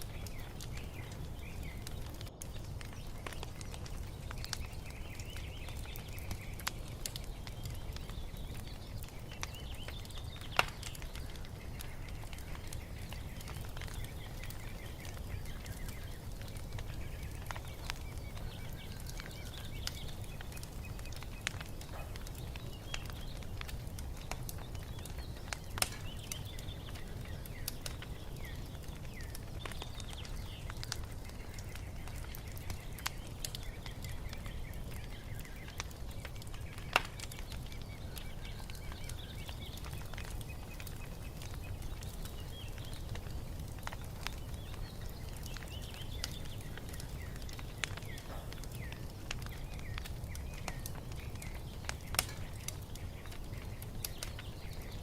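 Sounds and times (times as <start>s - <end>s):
songbirds chirping and singing: 0.0s - 55.0s
wood fire crackling and popping: 0.0s - 55.0s.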